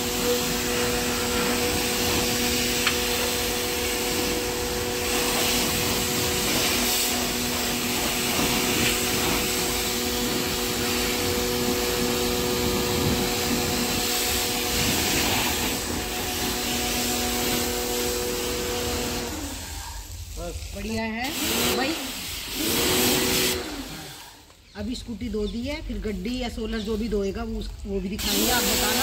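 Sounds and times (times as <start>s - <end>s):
pressure washer motor hum: 0.0s - 24.6s, 27.7s - 29.0s
water jet hissing: 0.0s - 24.6s, 28.0s - 29.0s.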